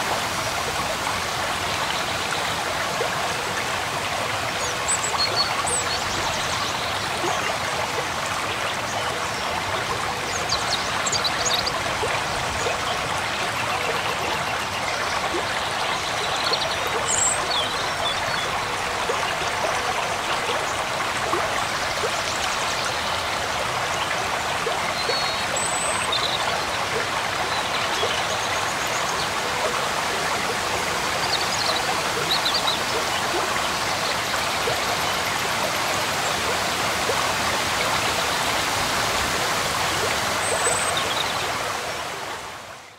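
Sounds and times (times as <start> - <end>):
stream rushing over boulders: 0.0 - 42.9.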